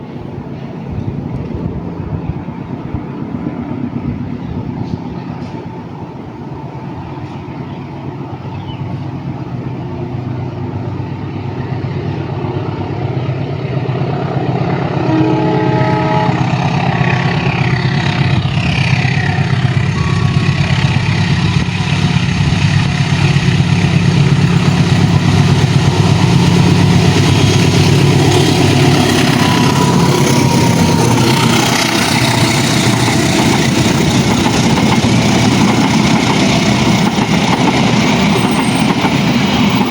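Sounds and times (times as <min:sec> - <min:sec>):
locomotive engine hum: 0:00.0 - 0:39.9
train rumbling: 0:00.0 - 0:39.9.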